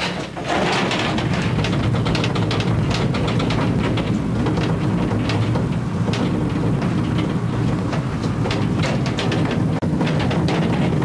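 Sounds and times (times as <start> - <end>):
hoist cage low rumble: 0.0 - 11.0
rattling clatter: 0.0 - 11.0.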